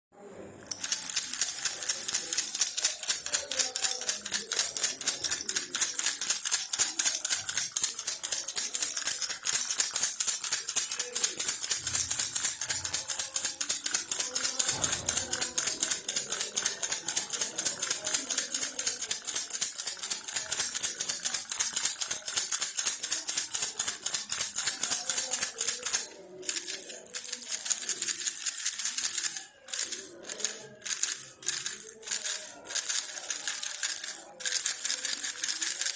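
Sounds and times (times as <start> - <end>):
baby rattle shaken rapidly: 0.6 - 35.9.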